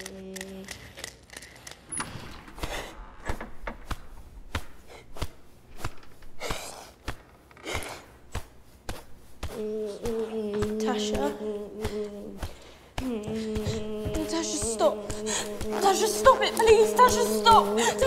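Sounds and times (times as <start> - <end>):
breathy rushes: 2.2 - 18.0.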